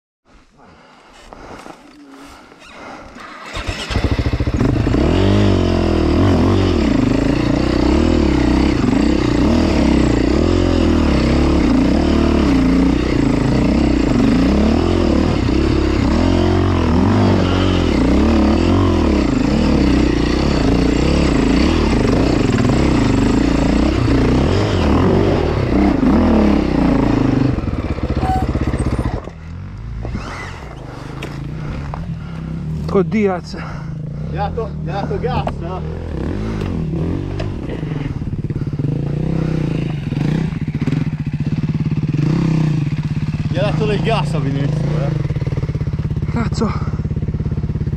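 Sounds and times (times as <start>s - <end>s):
motorcycle engine revving: 2.0s - 47.9s.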